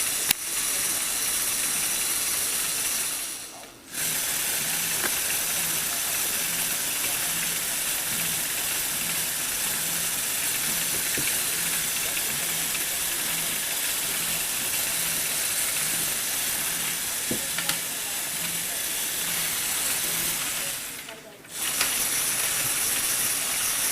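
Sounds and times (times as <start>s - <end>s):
toy electric motor whirring: 0.0s - 23.9s.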